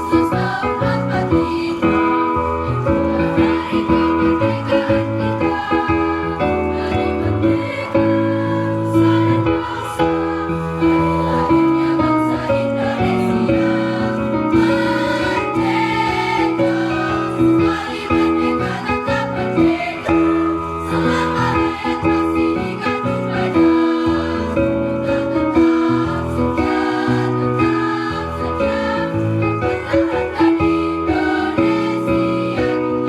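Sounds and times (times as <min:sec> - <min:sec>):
choir singing: 0:00.0 - 0:33.0
instrumental accompaniment: 0:00.0 - 0:33.0.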